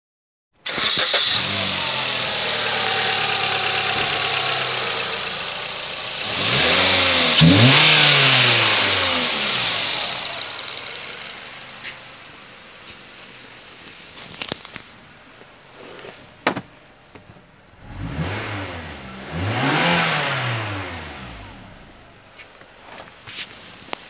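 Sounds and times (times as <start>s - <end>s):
car engine idling and revving: 0.6s - 24.0s.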